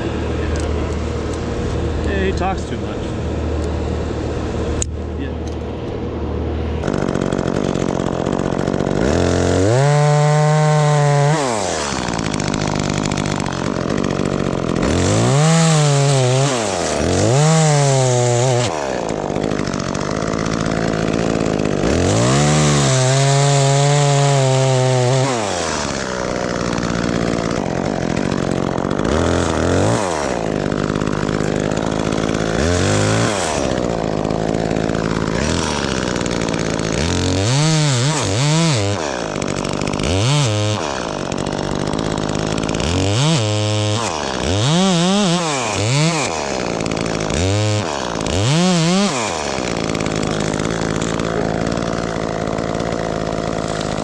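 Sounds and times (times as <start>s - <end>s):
steady engine drone: 0.0s - 23.1s, 24.1s - 54.0s
chainsaw revving cutting wood: 0.0s - 54.0s.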